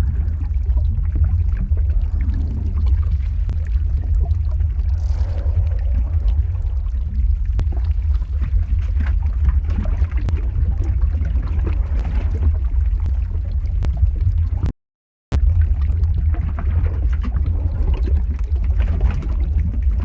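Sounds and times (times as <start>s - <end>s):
crackles and pops: 0.0s - 14.7s, 15.3s - 20.0s
deep rumble of lava flow: 0.0s - 14.7s, 15.4s - 20.0s
gurgling bubbling: 0.0s - 14.7s, 15.4s - 20.0s.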